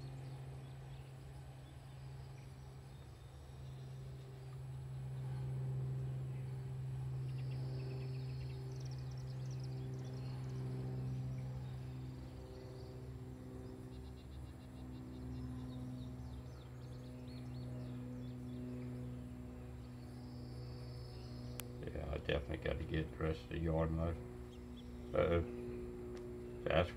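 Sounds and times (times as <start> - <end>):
small birds chirping: 0.0 - 26.9
steady low hum: 0.0 - 26.9.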